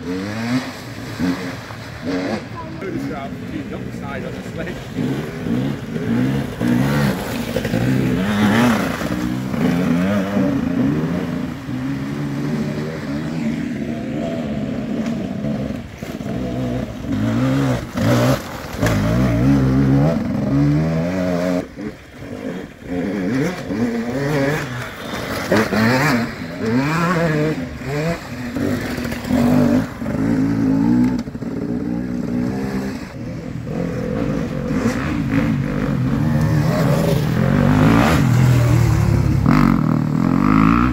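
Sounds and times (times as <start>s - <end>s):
dirt bikes revving past: 0.0s - 40.9s.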